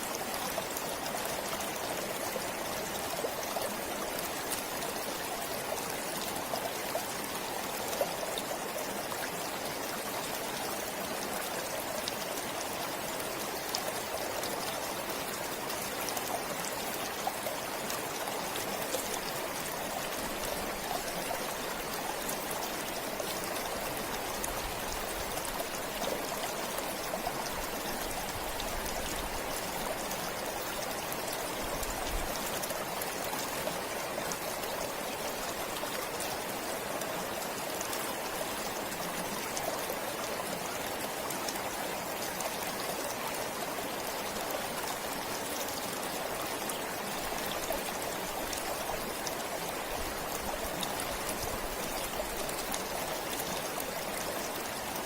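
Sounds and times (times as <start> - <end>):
forest stream flowing: 0.0 - 55.0.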